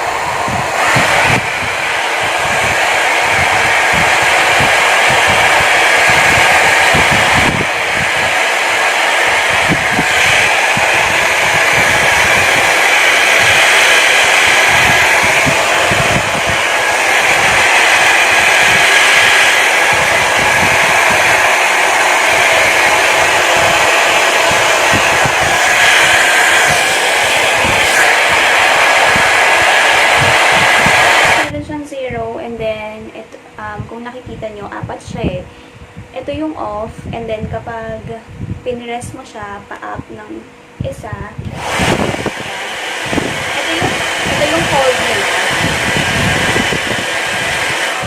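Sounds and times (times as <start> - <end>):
hair dryer blowing: 0.0 - 32.3, 41.0 - 48.0.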